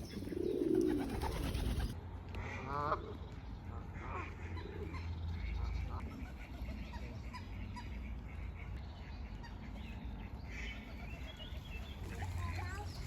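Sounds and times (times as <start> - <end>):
birds chirping: 0.0 - 2.0, 2.9 - 13.0.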